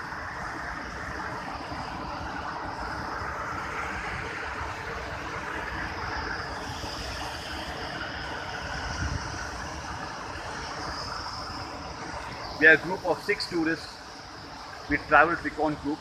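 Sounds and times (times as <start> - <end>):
high steady hiss: 0.0 - 16.0
waterfall roaring: 0.0 - 16.0.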